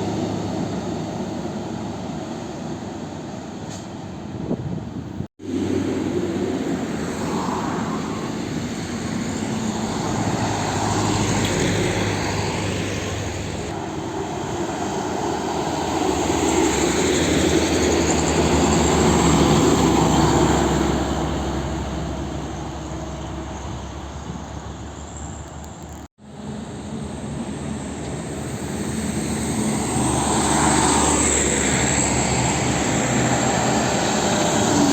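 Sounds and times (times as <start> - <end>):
diesel trucks passing: 0.0 - 34.9.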